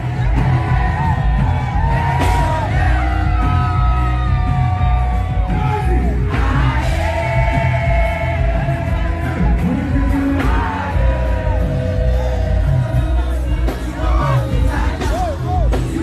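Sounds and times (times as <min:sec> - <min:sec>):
crowd yelling and singing: 0:00.0 - 0:16.0
heavy bass beat: 0:00.0 - 0:16.0.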